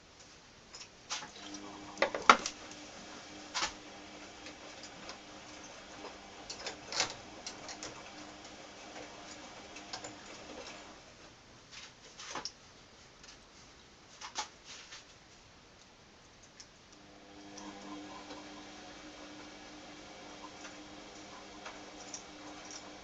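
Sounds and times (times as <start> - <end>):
faint steady hum: 0.0 - 14.2, 15.1 - 23.0.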